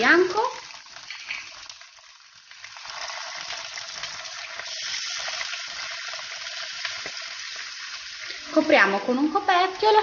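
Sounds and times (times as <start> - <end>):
mussels sizzling in oil: 0.0 - 10.0.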